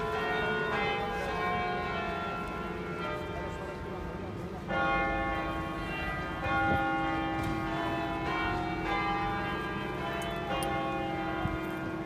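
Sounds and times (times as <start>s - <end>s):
cathedral bells ringing: 0.0s - 12.0s.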